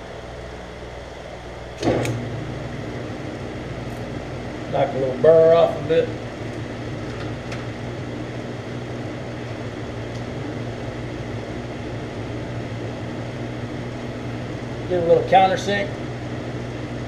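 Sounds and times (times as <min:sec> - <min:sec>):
metal lathe humming: 0:01.0 - 0:17.0.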